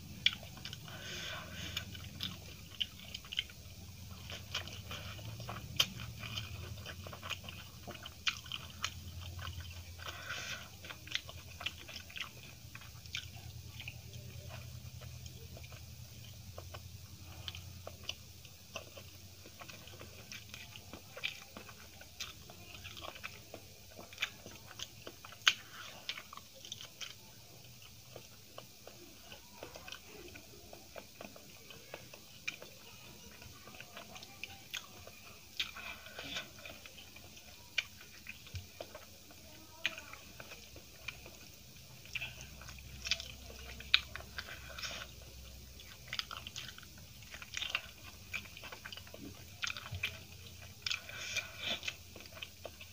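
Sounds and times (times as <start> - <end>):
crunch: 0.0 - 52.9
person chewing: 0.0 - 52.9.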